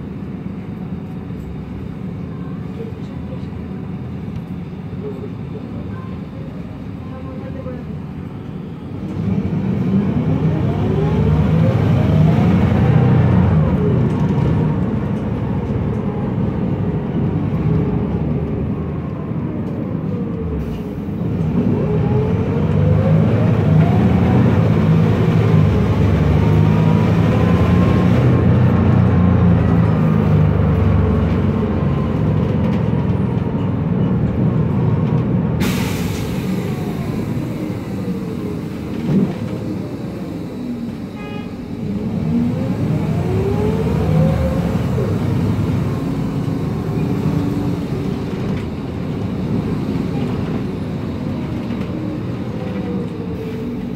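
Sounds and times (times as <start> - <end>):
low bus engine running: 0.0 - 53.9
road noise: 0.0 - 53.9.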